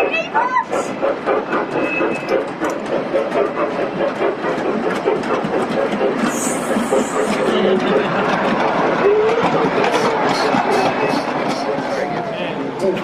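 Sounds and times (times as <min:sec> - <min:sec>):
wheels clicking on track: 0:00.0 - 0:13.0.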